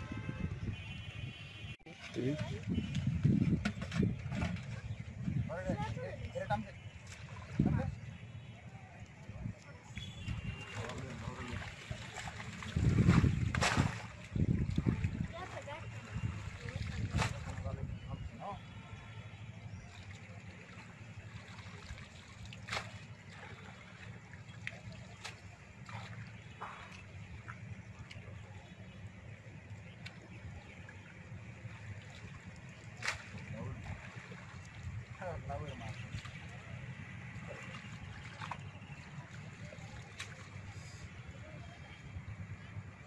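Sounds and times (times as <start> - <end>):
water trickling and sloshing: 0.0 - 43.0
sharp water splashes: 0.1 - 41.7.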